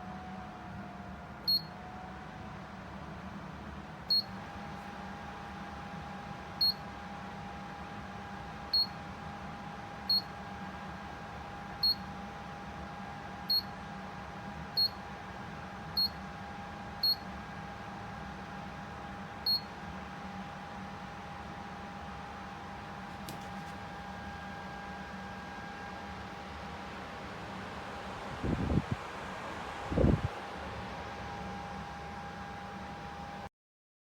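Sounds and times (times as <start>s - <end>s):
fan hum: 0.0s - 33.5s.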